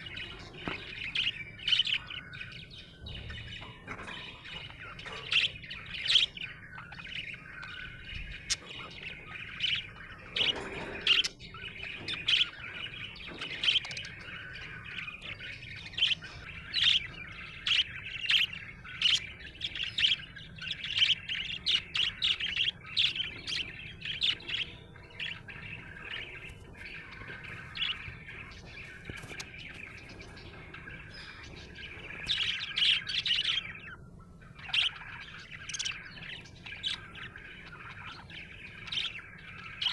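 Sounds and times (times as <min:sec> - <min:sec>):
budgerigar chirping and chattering: 0:00.0 - 0:39.9.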